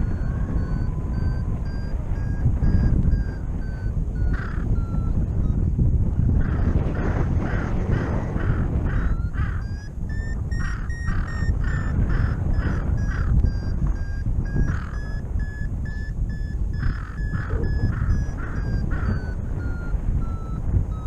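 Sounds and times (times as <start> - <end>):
variometer beeping high tones: 0.0 - 7.1, 8.4 - 21.0
wind rush on microphone: 0.0 - 21.0.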